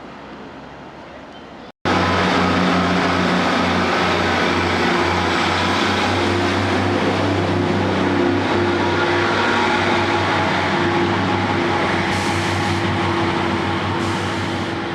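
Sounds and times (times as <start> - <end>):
train running close by: 0.0 - 14.9.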